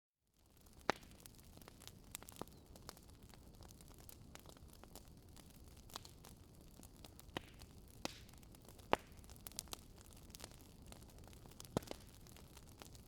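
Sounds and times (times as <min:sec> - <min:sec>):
wood fire crackling and popping: 0:00.4 - 0:13.0.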